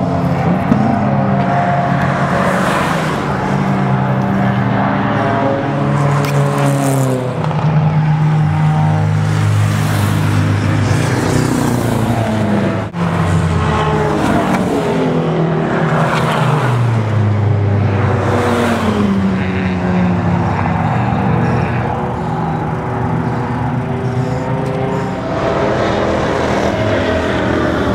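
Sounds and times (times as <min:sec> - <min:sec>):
race car engines passing: 0:00.0 - 0:27.9.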